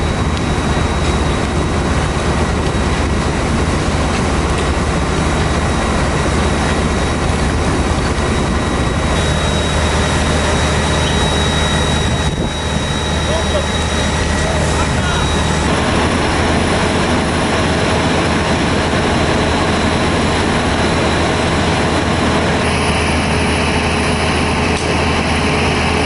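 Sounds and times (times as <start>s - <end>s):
diesel engine and pump drone: 0.0s - 26.0s
thin high whine: 0.0s - 26.0s.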